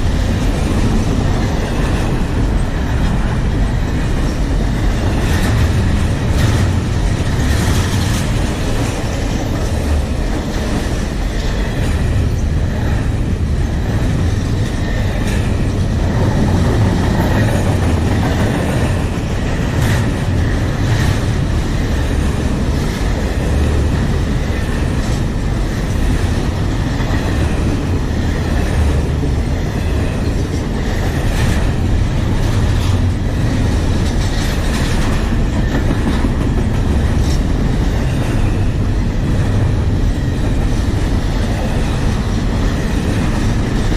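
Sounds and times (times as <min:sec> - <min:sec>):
freight train rumbling past: 0:00.0 - 0:43.9
wheels clicking over rail joints: 0:00.0 - 0:43.9.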